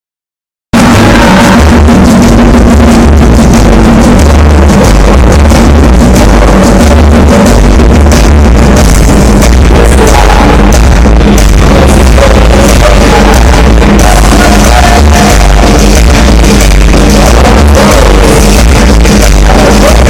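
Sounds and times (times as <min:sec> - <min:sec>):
loud music with deep bass: 0:00.7 - 0:20.0.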